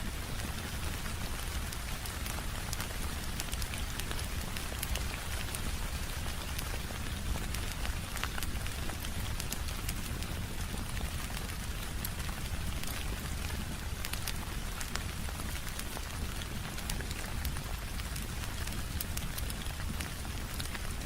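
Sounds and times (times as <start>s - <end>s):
sharp clicks of raindrops: 0.0s - 21.0s
steady rain: 0.0s - 21.0s.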